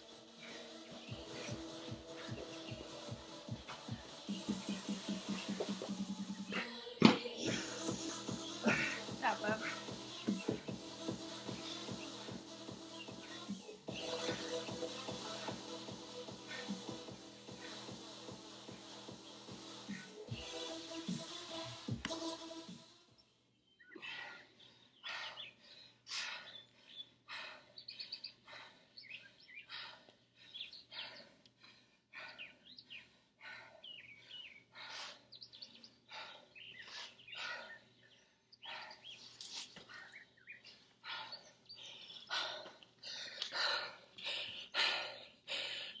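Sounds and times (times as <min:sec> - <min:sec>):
small birds chirping: 0:00.0 - 0:06.5, 0:07.6 - 0:20.0, 0:23.2 - 0:46.0.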